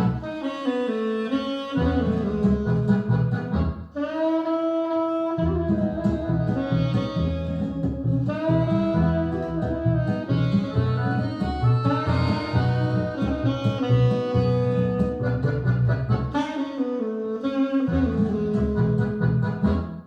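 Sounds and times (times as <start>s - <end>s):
instrumental music through loudspeakers: 0.0s - 4.4s, 5.2s - 20.0s.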